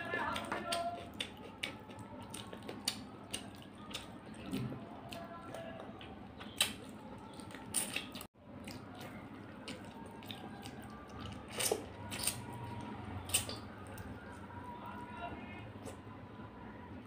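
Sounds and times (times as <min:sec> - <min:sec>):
wet chewing sounds: 0:00.0 - 0:16.2.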